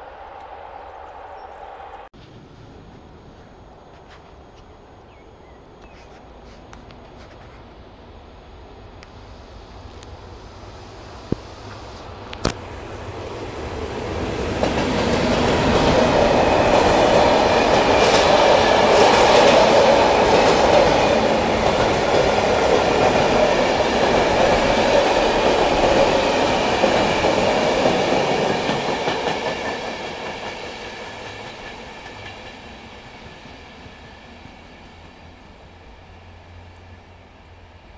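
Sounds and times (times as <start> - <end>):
electric train passing: 0.0 - 37.9.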